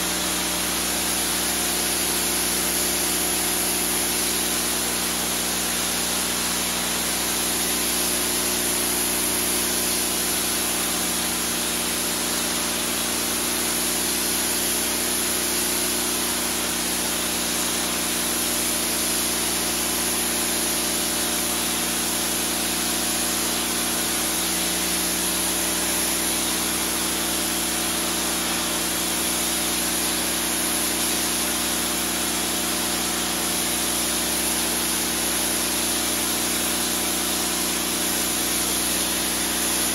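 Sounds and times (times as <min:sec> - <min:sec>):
pressure washer jet hissing: 0:00.0 - 0:39.9
pump hum: 0:00.0 - 0:39.9.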